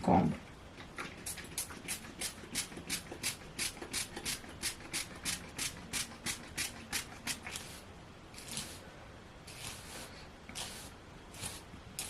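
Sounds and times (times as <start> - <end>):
brush rasping through hair: 1.2 - 8.8, 9.4 - 12.0.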